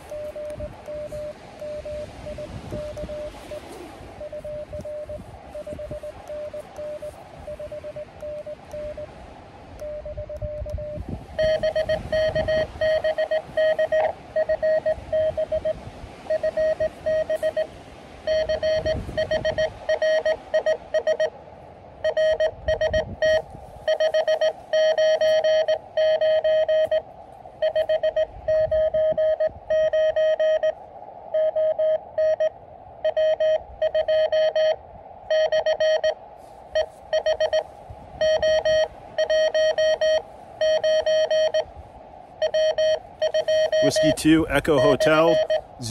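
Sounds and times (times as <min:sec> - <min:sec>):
morse code beeping: 0:00.0 - 0:09.2, 0:09.8 - 0:21.3, 0:22.0 - 0:30.8, 0:31.4 - 0:41.7, 0:42.4 - 0:45.9
wind rumble on microphone: 0:00.0 - 0:45.9.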